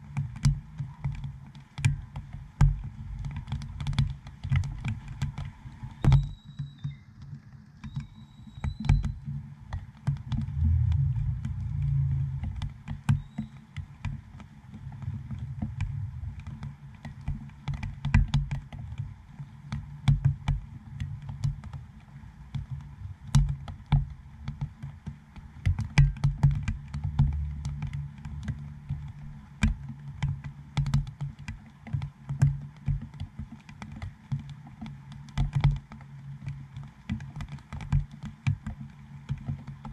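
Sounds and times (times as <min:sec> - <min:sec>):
light rain hiss: 0:00.0 - 0:06.1, 0:09.2 - 0:39.9
raindrops tapping on camera housing: 0:00.0 - 0:39.9.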